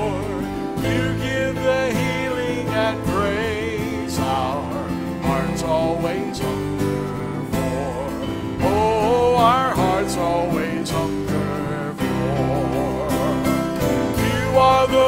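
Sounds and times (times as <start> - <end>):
live worship band music: 0.0 - 15.0.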